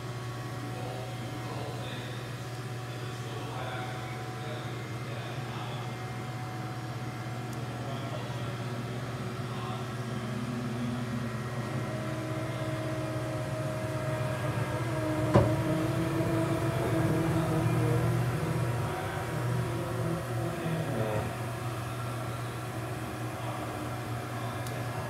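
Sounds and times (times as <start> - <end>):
machining center humming: 0.0 - 25.0
high steady whine: 3.5 - 25.0.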